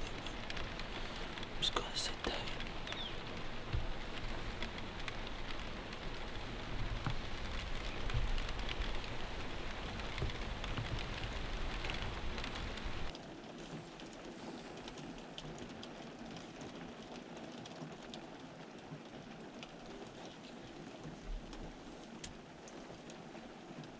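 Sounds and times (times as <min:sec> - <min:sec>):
steady rain with drops ticking: 0:00.0 - 0:23.9.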